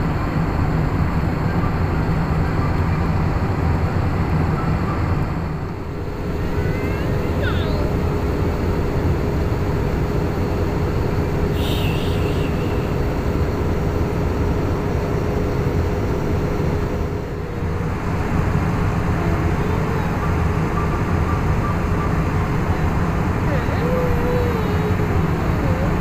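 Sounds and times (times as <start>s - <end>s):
aircraft engines droning: 0.0s - 26.0s
faint steady hum: 0.0s - 26.0s.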